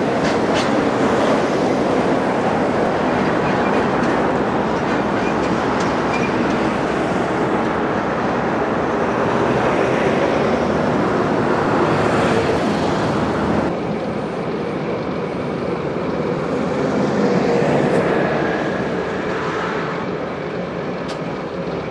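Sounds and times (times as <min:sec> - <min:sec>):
diesel locomotive engine running: 0:00.0 - 0:21.9
freight train rumble: 0:00.0 - 0:21.9.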